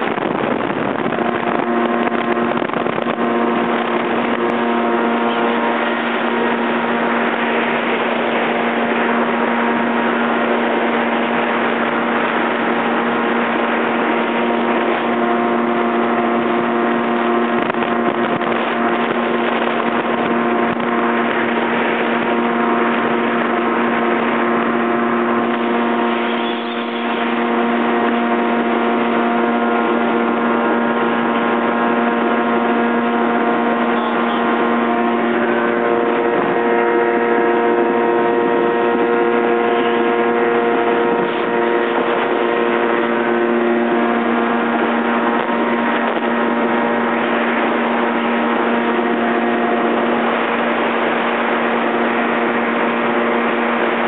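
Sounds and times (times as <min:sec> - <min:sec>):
jet ski engine whine: 0:00.0 - 0:54.0.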